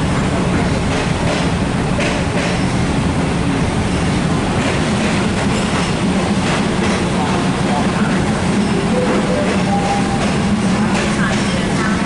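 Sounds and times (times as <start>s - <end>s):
diesel train rumble: 0.0s - 12.0s.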